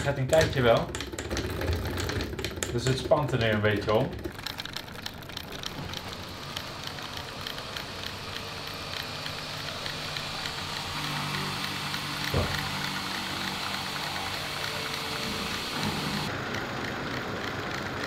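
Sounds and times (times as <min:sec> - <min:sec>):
solenoids clicking rapidly: 0:00.0 - 0:18.0.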